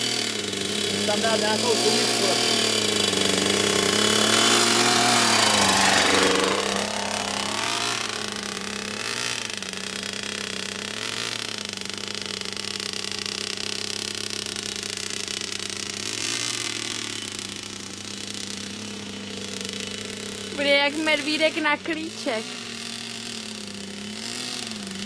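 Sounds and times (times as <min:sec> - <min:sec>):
mini motocross bike engine: 0:00.0 - 0:25.0.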